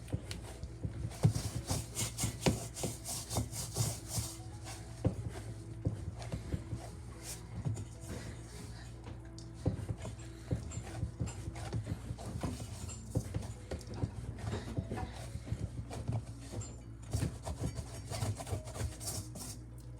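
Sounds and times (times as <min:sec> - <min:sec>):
dough being kneaded by hand: 0:00.0 - 0:19.9.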